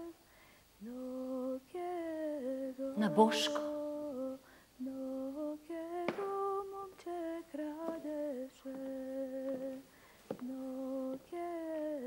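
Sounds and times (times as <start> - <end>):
woman humming slow melody: 0.8 - 12.0.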